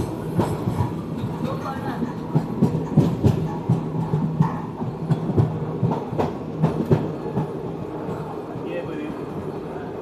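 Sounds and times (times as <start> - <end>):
wheels clattering over rails: 0.0 - 9.0
train running low hum: 0.0 - 10.0.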